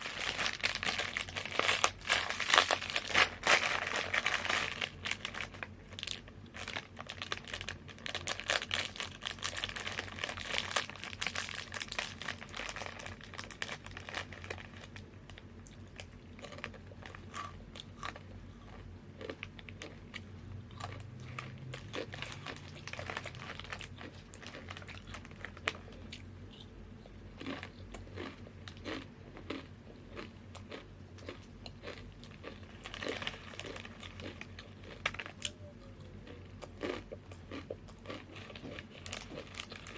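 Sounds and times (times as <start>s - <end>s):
chips being chewed: 0.0s - 39.9s.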